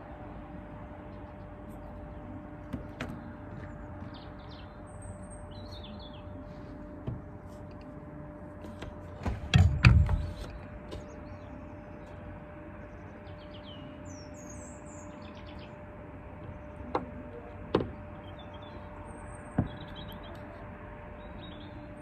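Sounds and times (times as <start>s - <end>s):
small birds chirping: 1.0s - 7.1s, 10.1s - 22.0s.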